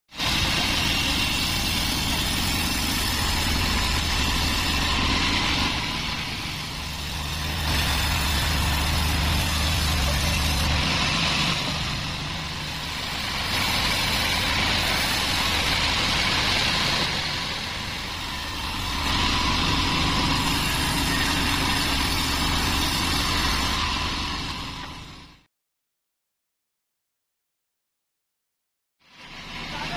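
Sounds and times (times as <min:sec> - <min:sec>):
band saw cutting wood: 0:00.2 - 0:25.1
low motor hum: 0:00.2 - 0:25.4.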